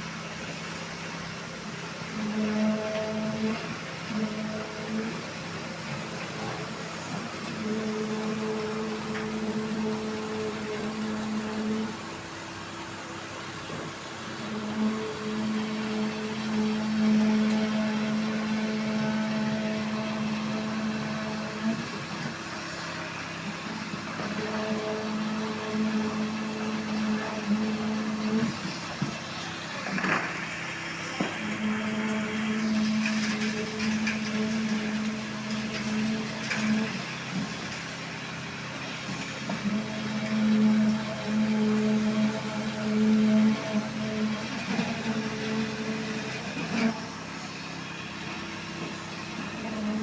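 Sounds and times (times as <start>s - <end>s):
machinery humming: 0.0s - 50.0s.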